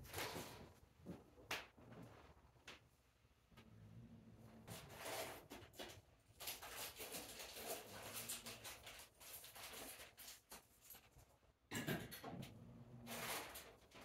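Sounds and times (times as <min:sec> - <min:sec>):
faint scratching and rustling: 0:00.0 - 0:11.5, 0:13.0 - 0:14.0.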